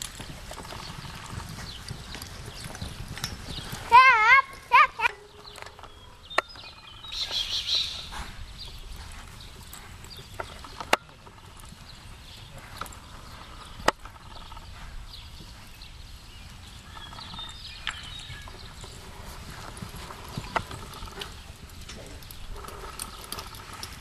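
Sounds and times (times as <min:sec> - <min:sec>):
hooves on soft dirt: 0:00.0 - 0:24.0.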